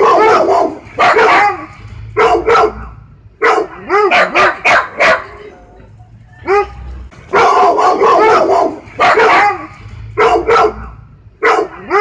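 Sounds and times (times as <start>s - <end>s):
dog barking: 0.0s - 5.5s, 6.4s - 12.0s.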